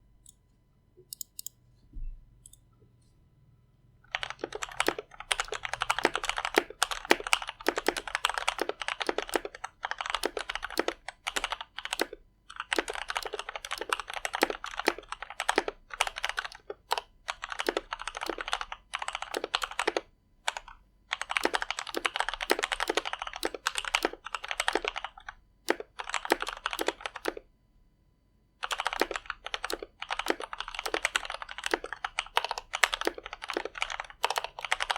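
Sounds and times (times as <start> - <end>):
mechanical keyboard keystroke clacks: 1.1 - 1.5, 4.1 - 27.4, 28.6 - 34.9.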